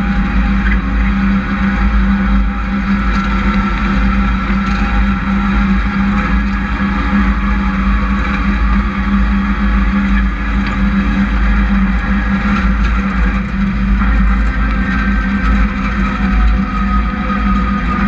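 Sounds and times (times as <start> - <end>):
race truck engines droning: 0.0 - 18.0.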